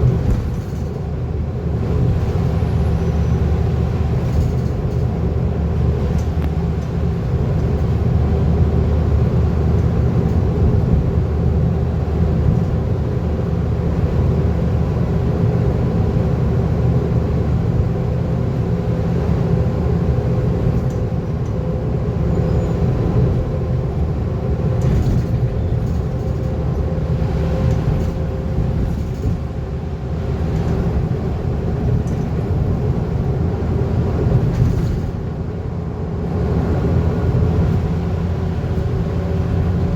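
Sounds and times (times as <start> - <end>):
bus diesel engine running: 0.0 - 39.9
road rumble: 0.0 - 39.9.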